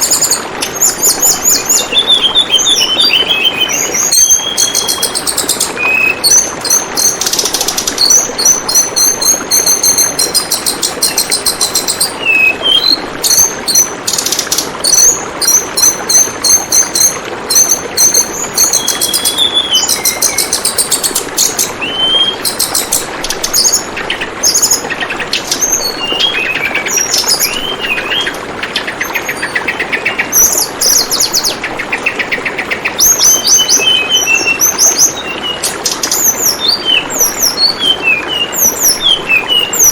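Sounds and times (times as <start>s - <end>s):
bird chirping trills: 0.0s - 39.9s
water trickling: 0.0s - 39.9s.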